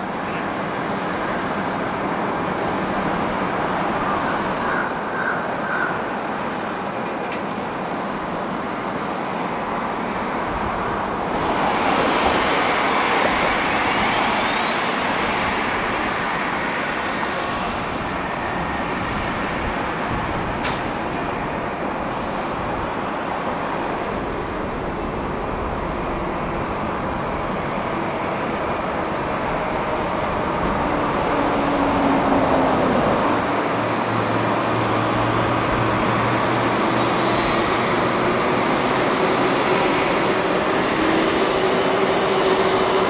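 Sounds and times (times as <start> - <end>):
jet aircraft and ground equipment roar: 0.0 - 43.0.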